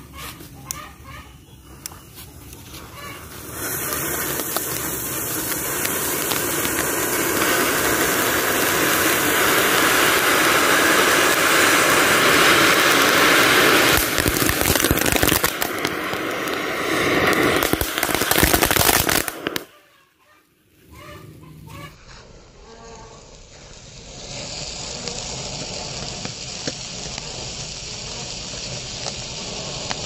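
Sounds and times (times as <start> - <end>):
fireworks hissing and crackling: 0.0 - 30.0.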